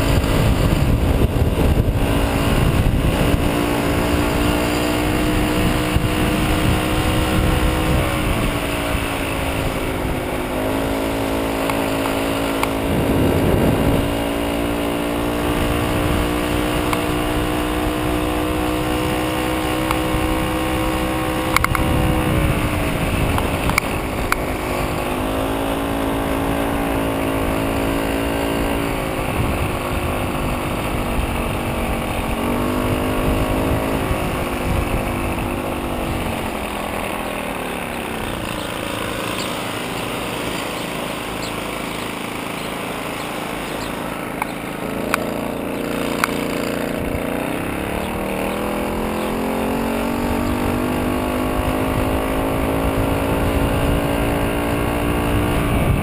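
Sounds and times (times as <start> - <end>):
wind rumble on microphone: 0.0 - 44.1, 44.9 - 56.0
moped two-stroke engine running: 0.0 - 56.0.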